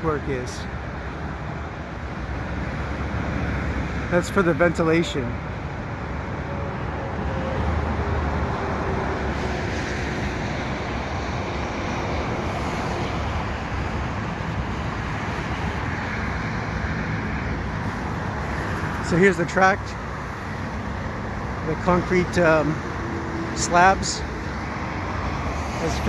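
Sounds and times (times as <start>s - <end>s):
highway traffic rushing: 0.0s - 26.0s.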